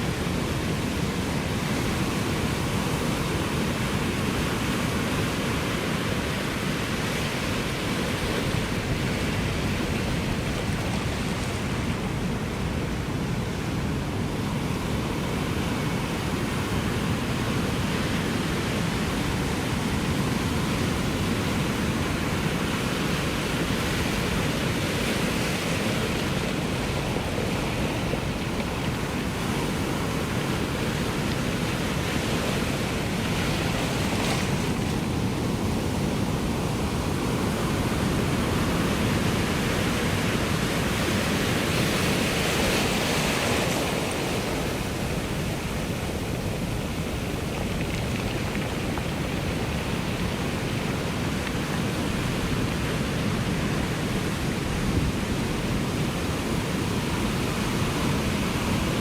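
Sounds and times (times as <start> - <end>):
ocean surf: 0.0 - 59.0.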